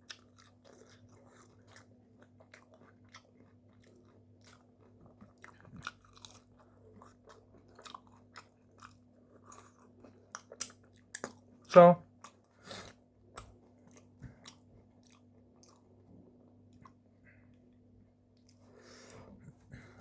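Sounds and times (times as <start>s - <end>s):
chewing and crunching food: 0.0s - 20.0s
faint low hum: 0.0s - 20.0s.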